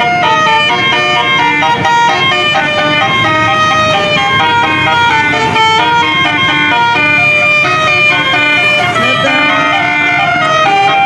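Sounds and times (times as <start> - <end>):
bus horn playing a tune: 0.0 - 11.0.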